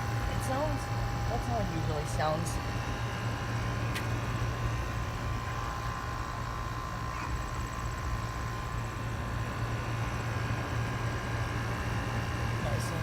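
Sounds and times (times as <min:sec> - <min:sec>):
air conditioner airy noise: 0:00.0 - 0:13.0
air conditioner compressor humming: 0:00.0 - 0:13.0.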